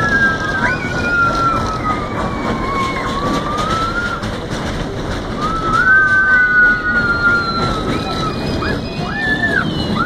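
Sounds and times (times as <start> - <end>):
long high squeals: 0.0 - 4.4, 5.3 - 10.0
roller coaster rumble: 0.0 - 10.0.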